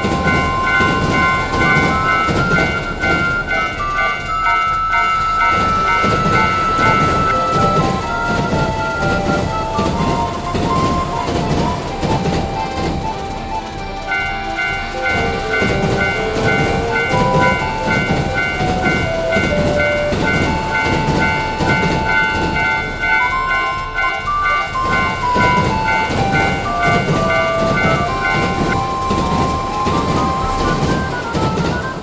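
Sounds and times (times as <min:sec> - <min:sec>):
light background melody: 0:00.0 - 0:32.0
railroad crossing alarm clanging: 0:00.0 - 0:32.0
train rumbling past: 0:00.0 - 0:32.0.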